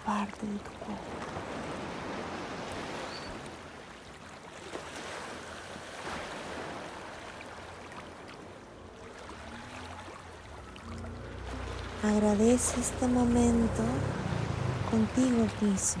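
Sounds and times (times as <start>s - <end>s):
waves breaking against rocks: 0.0s - 16.0s.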